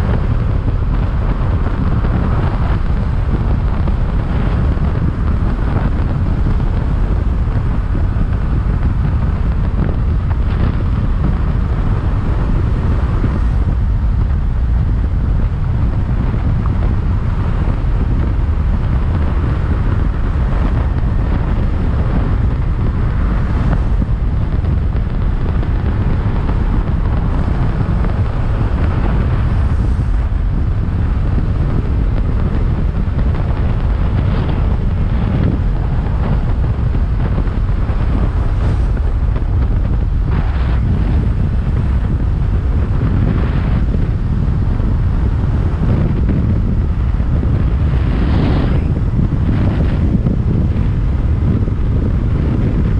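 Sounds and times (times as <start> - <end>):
low motorcycle rumble: 0.0 - 52.9
wind buffeting microphone: 0.0 - 52.9.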